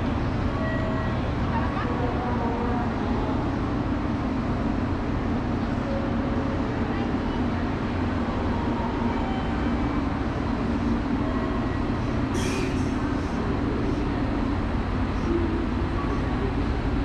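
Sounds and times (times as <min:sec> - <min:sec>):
murmur of voices: 0:00.0 - 0:17.0
stationary train humming: 0:00.0 - 0:17.0.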